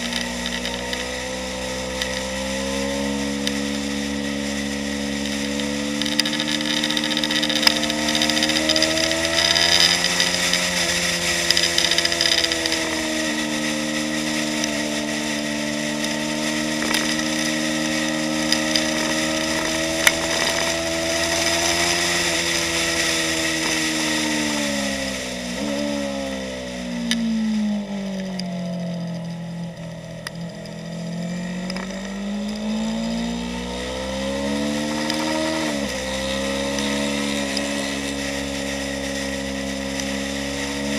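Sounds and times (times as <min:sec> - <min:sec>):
motorcycle engine revving high: 0:00.0 - 0:40.9.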